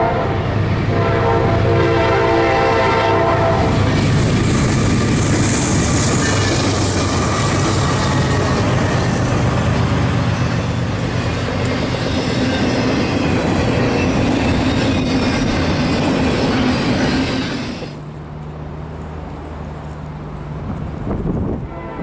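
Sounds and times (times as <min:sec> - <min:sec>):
train rolling past: 0:00.0 - 0:22.0.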